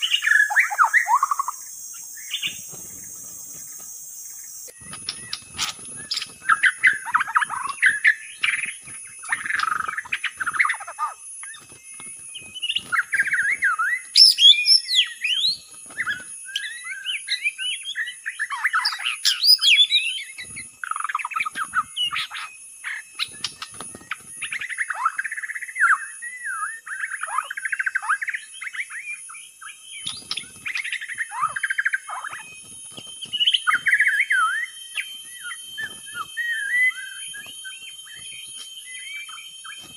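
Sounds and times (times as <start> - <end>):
bird singing whistles and chatters: 0.0 - 39.9.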